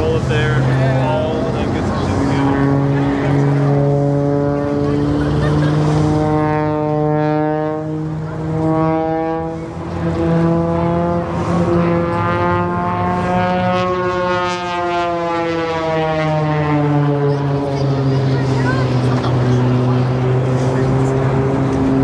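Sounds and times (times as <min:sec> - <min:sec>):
aircraft engine drone: 0:00.0 - 0:22.0.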